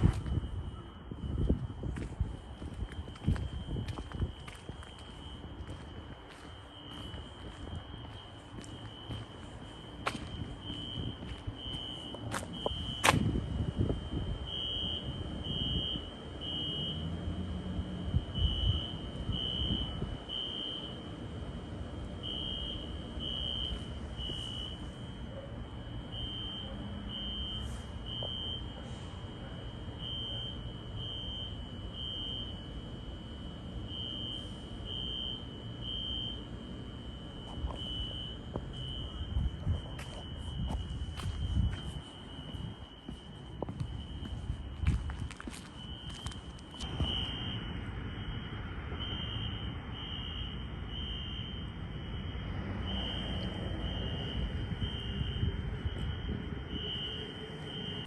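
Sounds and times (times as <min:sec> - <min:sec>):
faint continuous tone: 0:00.0 - 0:52.3
fire alarm horn beeps: 0:00.0 - 0:58.0.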